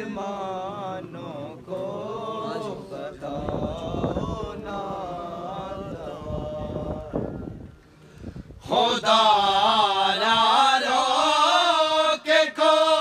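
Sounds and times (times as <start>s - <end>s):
men chanting a lament: 0.0s - 7.4s, 8.6s - 13.0s.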